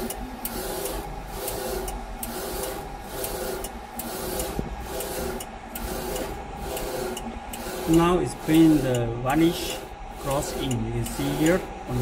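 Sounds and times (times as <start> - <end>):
printer carriage motor whine: 0.0 - 12.0
steady low hum: 0.0 - 12.0.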